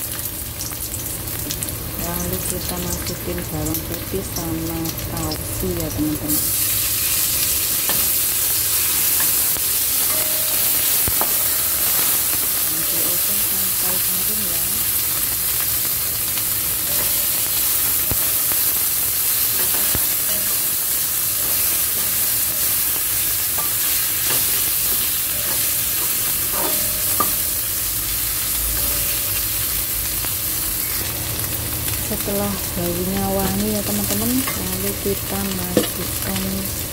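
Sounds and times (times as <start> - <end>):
food sizzling in hot oil: 0.0 - 36.9.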